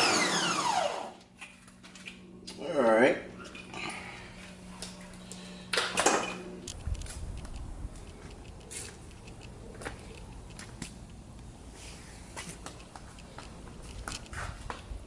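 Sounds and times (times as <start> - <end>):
steady low hum: 0.3 - 15.0.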